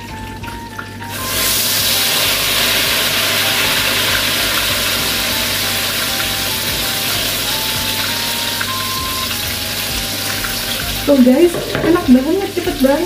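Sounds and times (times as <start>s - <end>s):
egg sizzling in hot oil: 0.0s - 13.0s.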